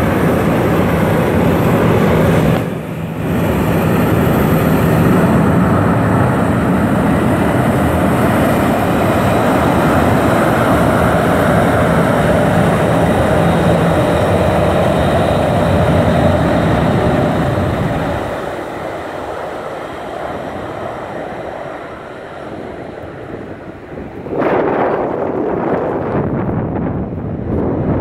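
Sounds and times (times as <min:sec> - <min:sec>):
jet engine roar: 0:00.0 - 0:28.0.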